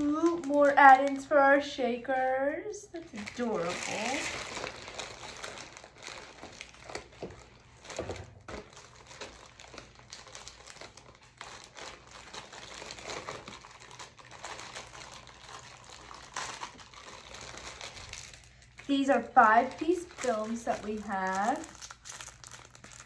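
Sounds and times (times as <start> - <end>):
plastic packaging crinkling: 0.0 - 1.7, 2.9 - 23.0.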